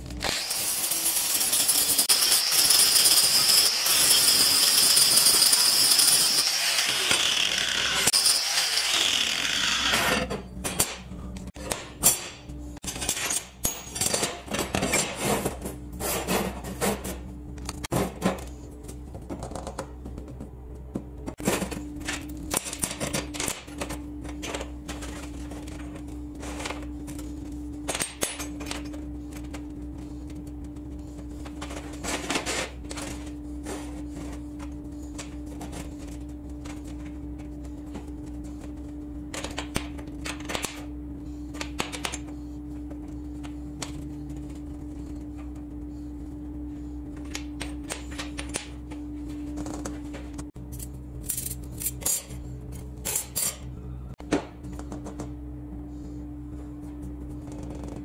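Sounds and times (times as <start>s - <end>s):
steady hum: 9.6s - 58.0s.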